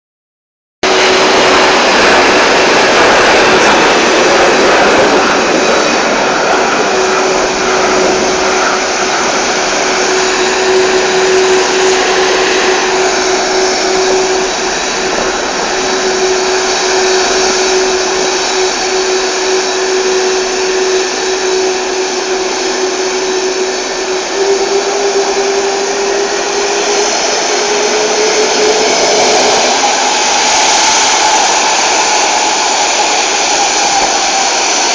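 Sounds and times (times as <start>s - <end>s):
jet engines roaring: 0.8s - 34.9s.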